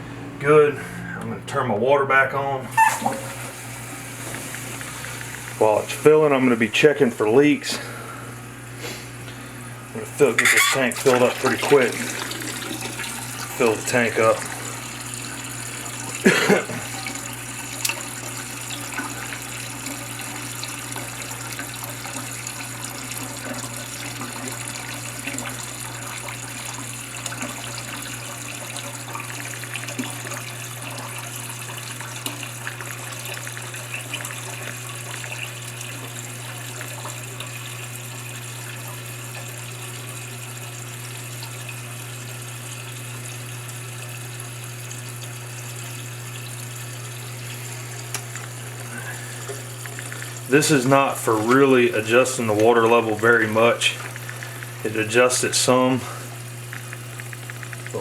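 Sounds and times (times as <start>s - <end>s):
water rushing into toilet tank: 2.7s - 58.0s.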